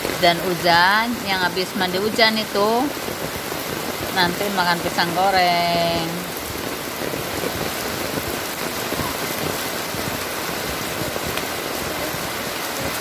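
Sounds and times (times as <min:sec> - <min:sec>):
heavy rain on wet paving: 0:00.0 - 0:13.0.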